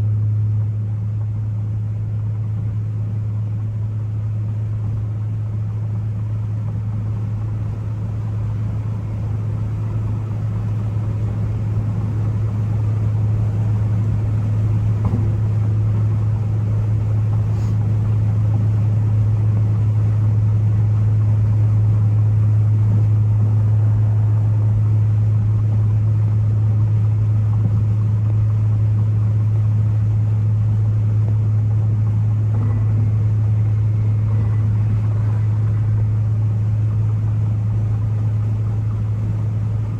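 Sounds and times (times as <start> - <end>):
car engine and exhaust drone: 0.0 - 39.9.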